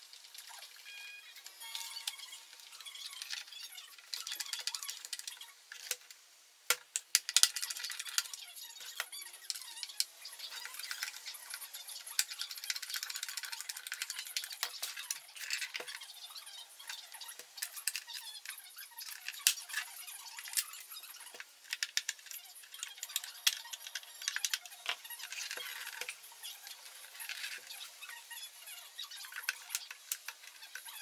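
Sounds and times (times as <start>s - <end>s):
screwdriver scraping and clicking: 1.4s - 6.1s, 6.7s - 16.1s, 16.8s - 28.3s, 29.1s - 31.0s.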